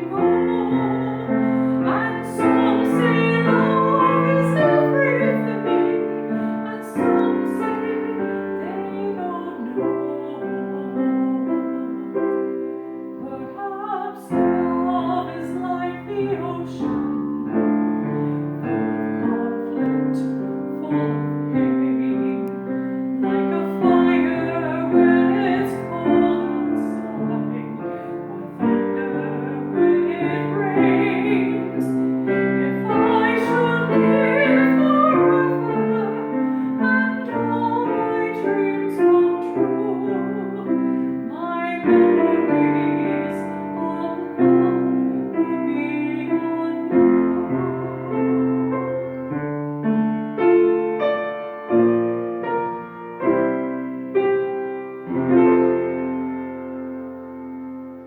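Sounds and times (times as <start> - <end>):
woman singing classical style: 0.0 - 51.0, 51.6 - 57.4
piano playing chords: 0.0 - 58.0.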